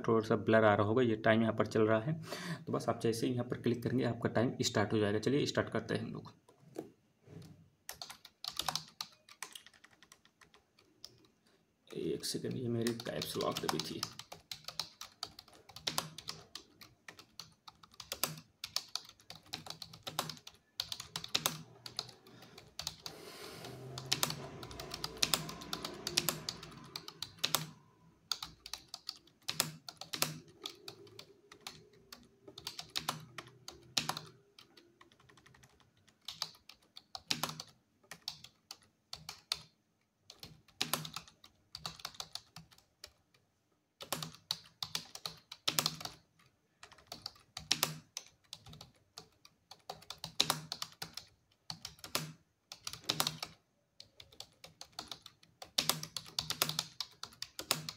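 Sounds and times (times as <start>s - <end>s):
keyboard typing fast: 7.9s - 43.3s, 44.0s - 57.9s.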